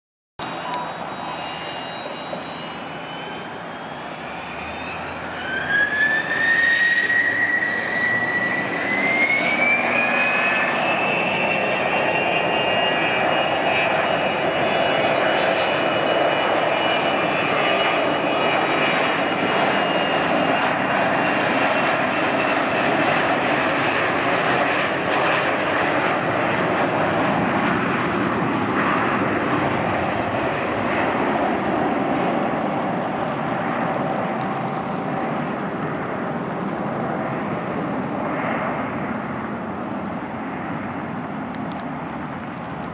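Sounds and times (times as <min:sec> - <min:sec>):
jet engines roaring at takeoff: 0:00.4 - 0:42.9.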